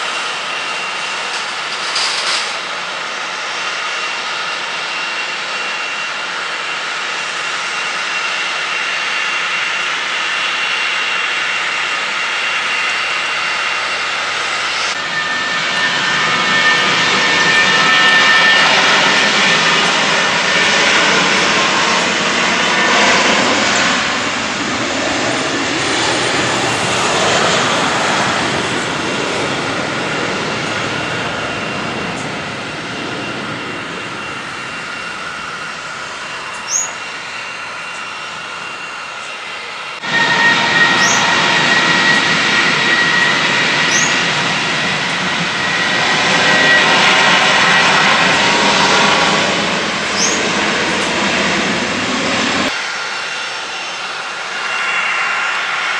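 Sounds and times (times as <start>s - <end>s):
aircraft turbine engines whining: 0.0s - 55.9s.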